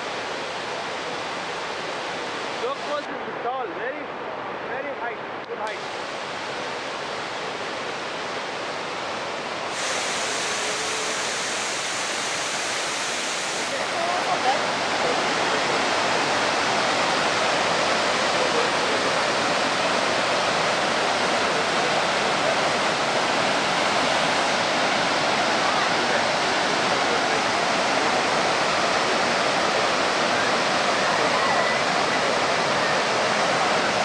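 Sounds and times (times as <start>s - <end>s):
waterfall rushing over rock: 0.0s - 4.2s, 5.5s - 34.0s.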